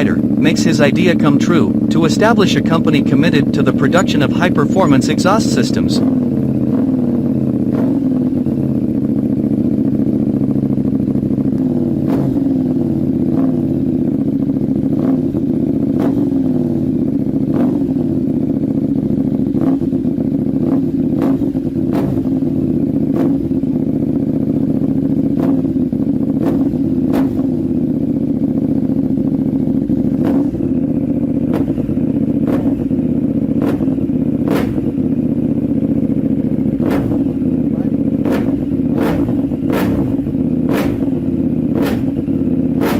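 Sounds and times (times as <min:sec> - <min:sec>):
motorcycle engine running steadily: 0:00.0 - 0:42.9.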